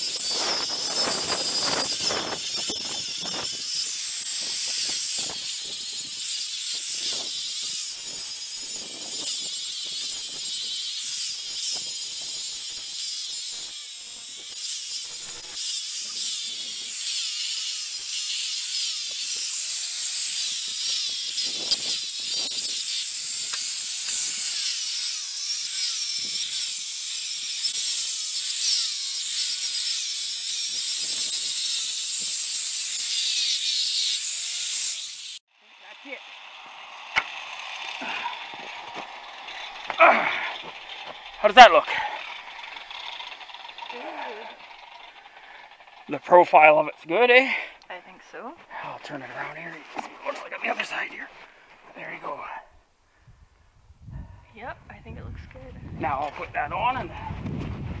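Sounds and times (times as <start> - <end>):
angle grinder grinding steel: 0.0 - 52.6, 56.0 - 57.4.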